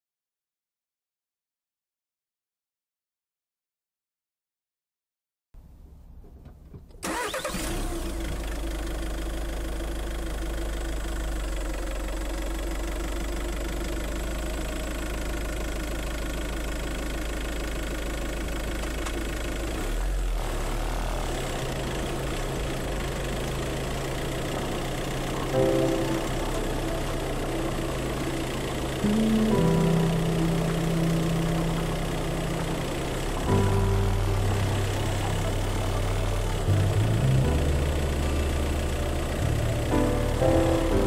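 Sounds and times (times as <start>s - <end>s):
car engine idling: 5.6s - 41.0s.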